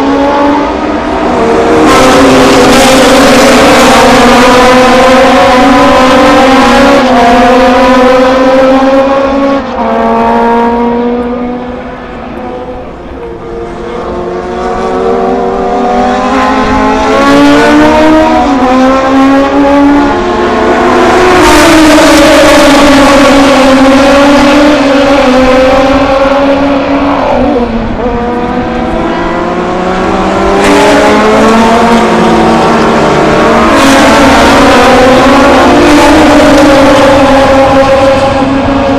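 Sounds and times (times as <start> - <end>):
racing car engine at high revs: 0.0 - 38.9.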